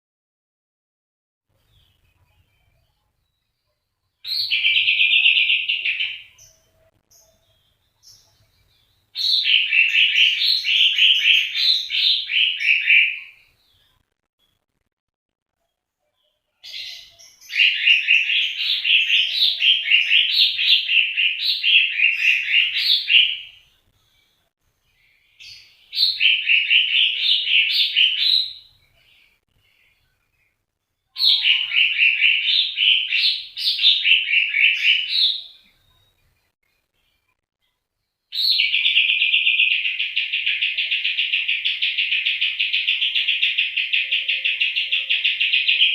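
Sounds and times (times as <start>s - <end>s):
songbird chirping: 1.5s - 14.9s, 15.5s - 45.9s.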